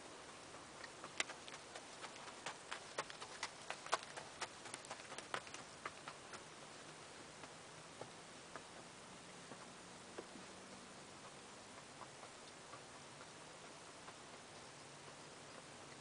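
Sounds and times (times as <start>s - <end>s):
horse hooves on frosty ground: 0.0s - 16.0s.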